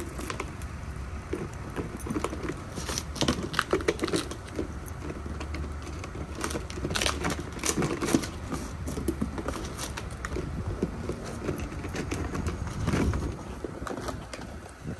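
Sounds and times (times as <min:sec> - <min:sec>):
puppies playing with paws and teeth: 0:00.0 - 0:14.9
plastic bottle crackling: 0:02.4 - 0:14.7.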